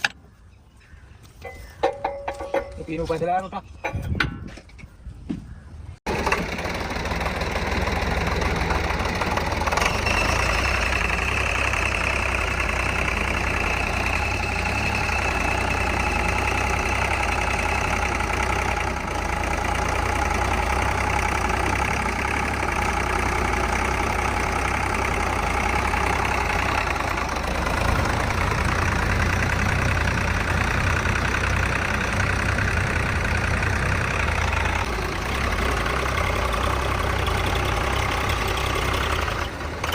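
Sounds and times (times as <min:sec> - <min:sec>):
tractor diesel engine clattering: 0:01.4 - 0:04.9, 0:06.0 - 0:39.9.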